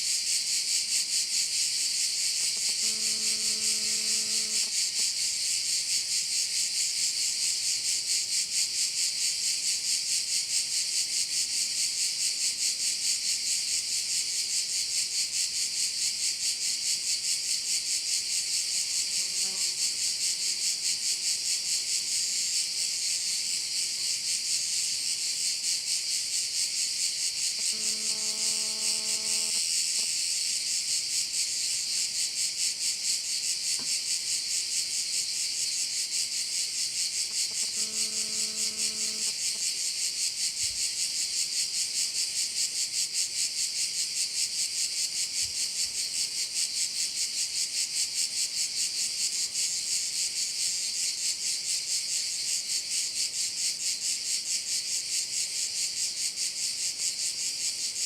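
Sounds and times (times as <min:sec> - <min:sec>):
insects buzzing chorus: 0:00.0 - 0:58.0.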